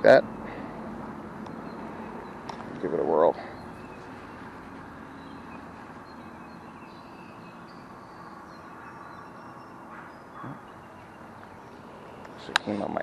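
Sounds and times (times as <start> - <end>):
outdoor background hiss: 0.0 - 13.0
faint high bird chirps: 1.5 - 12.6.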